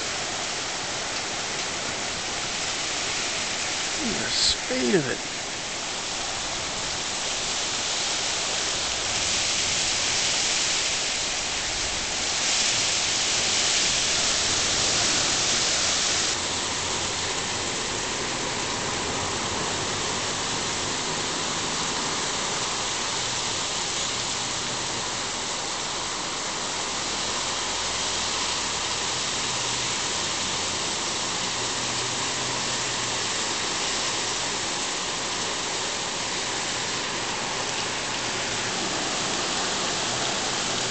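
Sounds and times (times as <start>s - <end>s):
rushing floodwater: 0.0s - 40.9s
torrential rain pouring: 0.0s - 40.9s.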